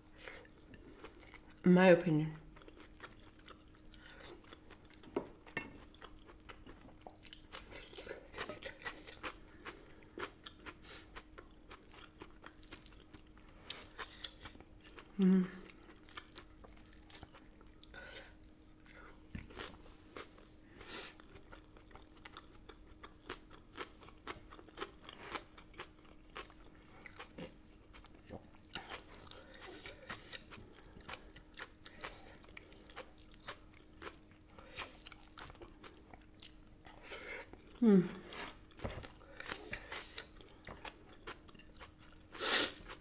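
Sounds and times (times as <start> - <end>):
chewing and crunching food: 0.0 - 1.6, 2.4 - 43.0.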